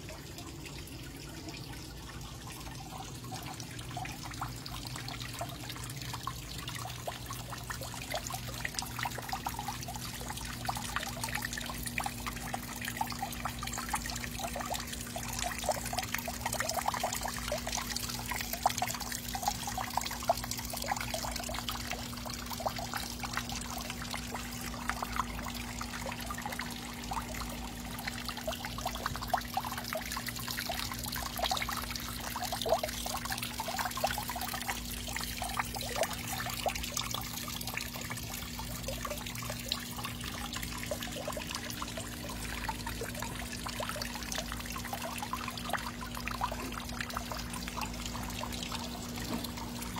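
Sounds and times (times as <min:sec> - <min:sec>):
fountain water trickling and splashing: 0:00.0 - 0:49.9.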